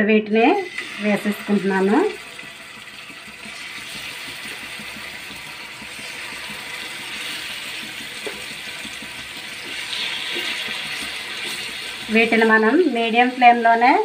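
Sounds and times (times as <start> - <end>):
fish sizzling in hot oil: 0.5 - 14.0.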